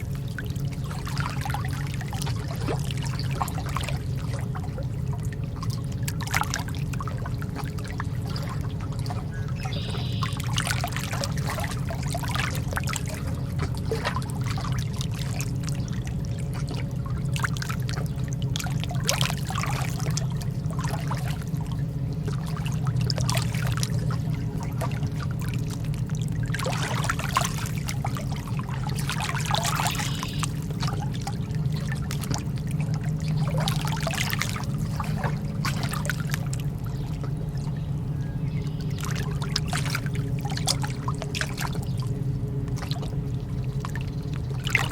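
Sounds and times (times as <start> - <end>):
lake water lapping at shore: 0.0 - 44.9
low background rumble: 0.0 - 44.9.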